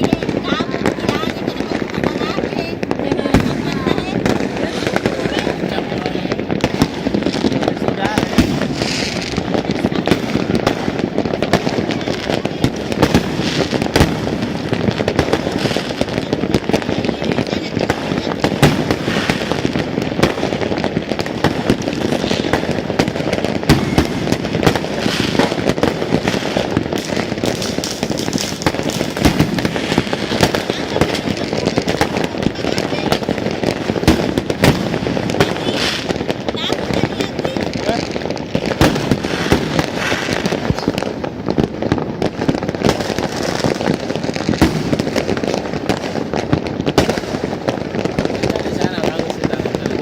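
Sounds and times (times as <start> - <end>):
firecracker bangs: 0.0 - 50.0
fireworks crackling: 0.0 - 50.0.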